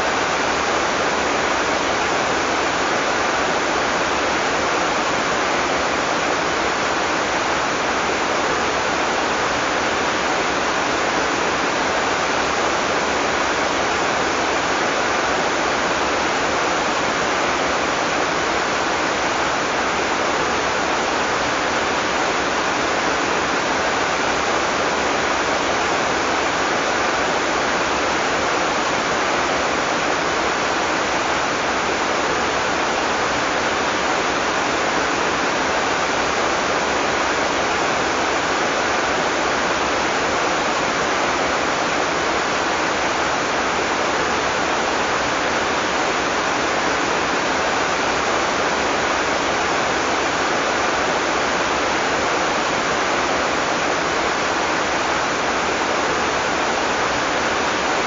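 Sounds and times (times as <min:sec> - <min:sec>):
heavy rain downpour: 0:00.0 - 0:58.0.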